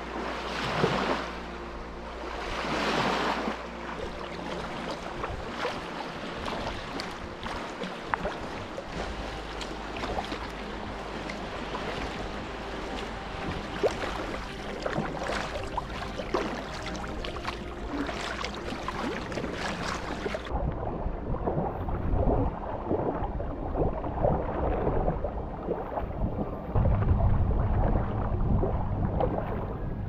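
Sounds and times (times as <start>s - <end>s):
water slapping against hull: 0.0s - 1.5s, 2.2s - 30.0s
kayak paddle strokes splashing: 0.0s - 26.5s
low rumble: 0.0s - 30.0s.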